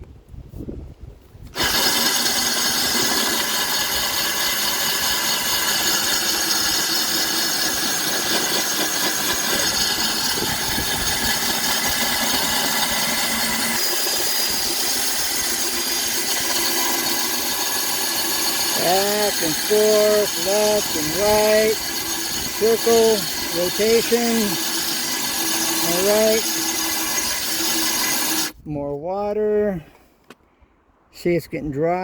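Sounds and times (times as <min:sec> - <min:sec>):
drill grinding through tile: 0:01.5 - 0:28.6.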